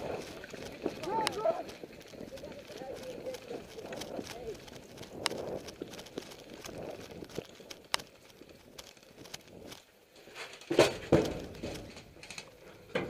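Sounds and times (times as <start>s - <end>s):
small clicks: 0.0s - 12.6s
rustling gear: 0.0s - 12.9s
footsteps: 0.0s - 13.0s.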